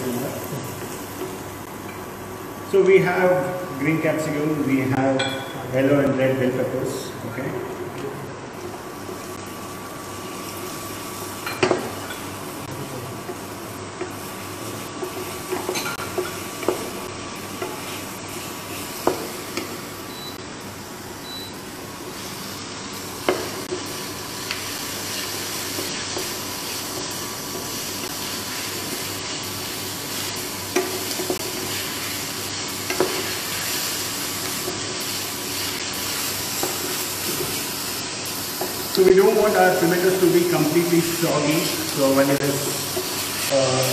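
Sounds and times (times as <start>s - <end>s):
vegetables sizzling in oil: 0.0s - 2.8s, 6.1s - 43.9s.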